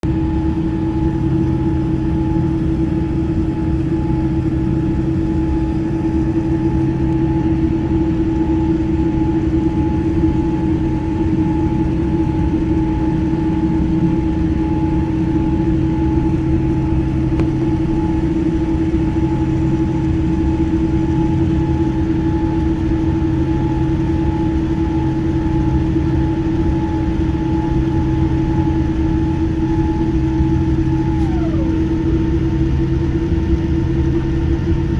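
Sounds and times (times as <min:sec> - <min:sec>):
airliner engines running: 0:00.0 - 0:34.9.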